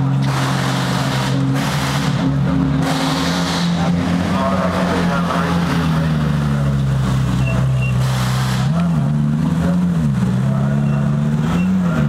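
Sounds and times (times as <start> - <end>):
race car engine idling: 0.0 - 12.0.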